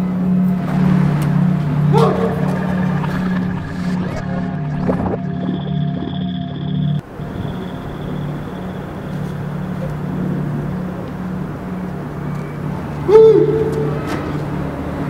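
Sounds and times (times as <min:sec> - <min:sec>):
city street ambience: 0:00.0 - 0:15.0
constant low hum: 0:00.0 - 0:15.0.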